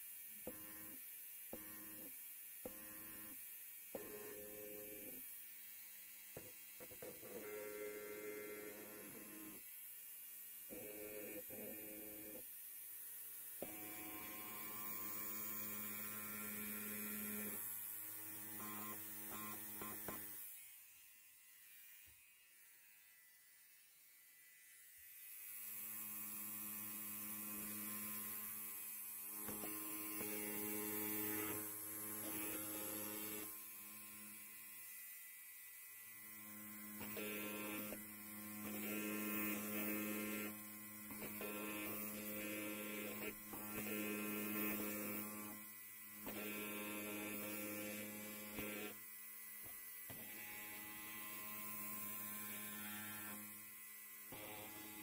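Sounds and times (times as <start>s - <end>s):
electric hair clipper buzzing: 0.0s - 55.0s.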